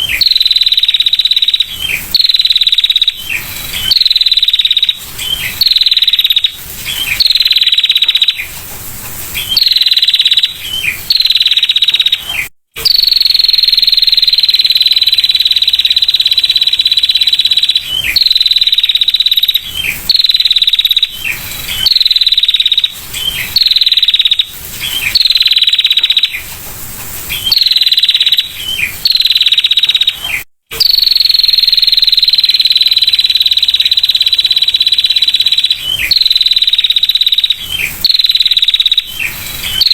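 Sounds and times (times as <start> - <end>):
bird giving high trills: 0.0 - 8.6, 9.3 - 26.5, 27.3 - 39.9.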